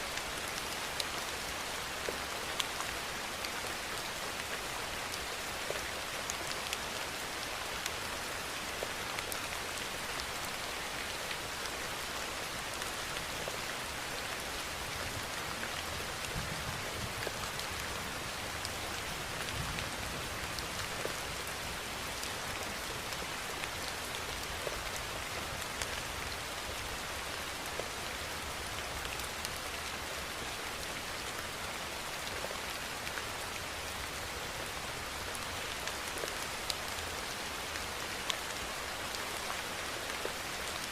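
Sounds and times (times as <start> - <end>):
raindrops ticking on a surface: 0.0 - 40.9
steady rainfall hiss: 0.0 - 40.9.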